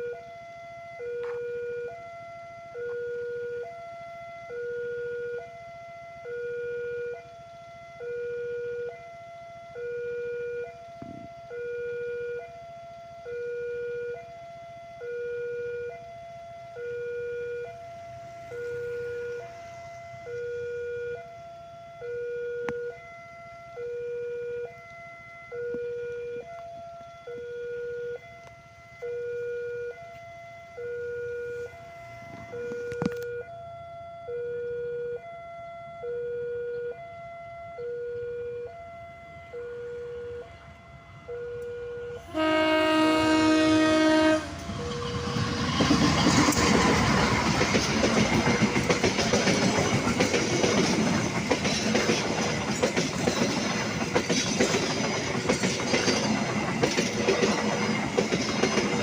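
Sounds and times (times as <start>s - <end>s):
level crossing alarm: 0.0s - 59.0s.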